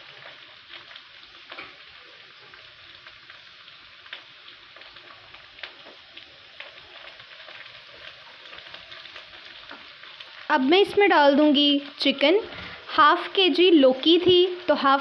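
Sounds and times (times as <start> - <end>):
oil sizzling in a pan: 0.0 - 15.0
crackling pops: 0.2 - 3.3, 4.0 - 14.7.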